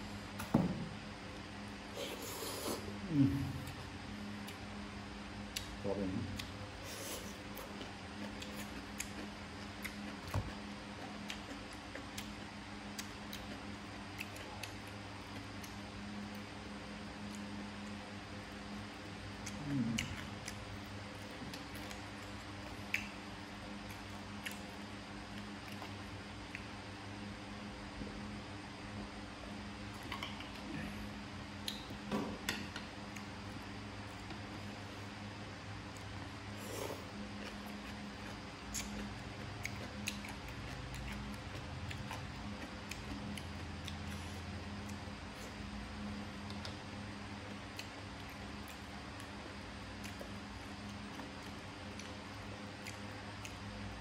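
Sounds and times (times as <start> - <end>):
steady low hum: 0.0 - 54.0
person chewing food: 5.4 - 26.8, 29.9 - 54.0.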